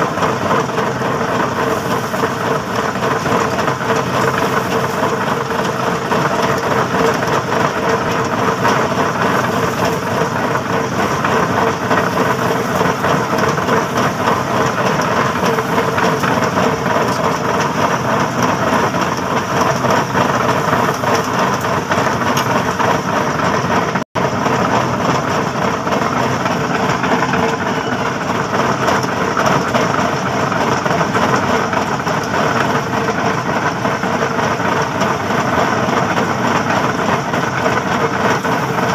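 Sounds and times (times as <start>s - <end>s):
machine hum: 0.0s - 33.0s
pipe mould mechanical rattle: 0.0s - 38.9s.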